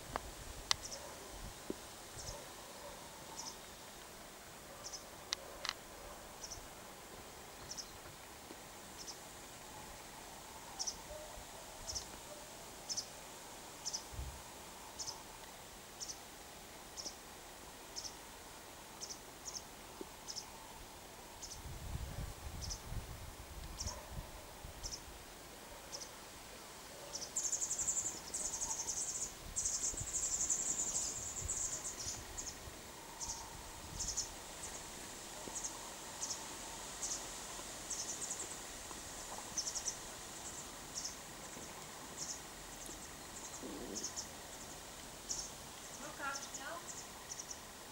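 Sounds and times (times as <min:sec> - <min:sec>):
faint outdoor background: 0:00.0 - 0:47.9.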